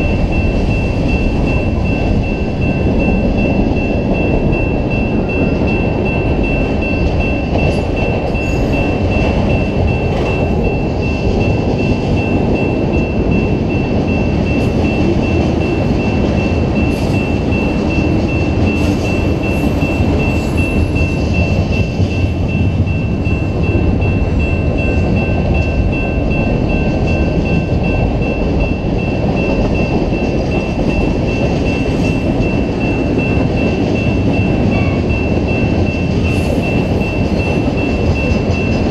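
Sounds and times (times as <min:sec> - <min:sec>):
high-pitched ring: 0:00.0 - 0:38.9
train wheels rumbling on rail: 0:00.0 - 0:38.9.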